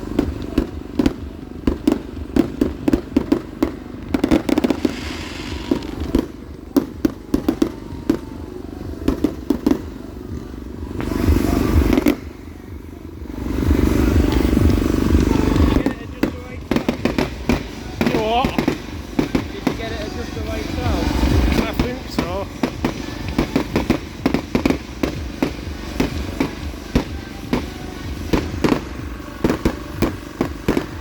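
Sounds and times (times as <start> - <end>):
fireworks crackling and popping: 0.0 - 31.0
steady rushing noise: 0.0 - 31.0.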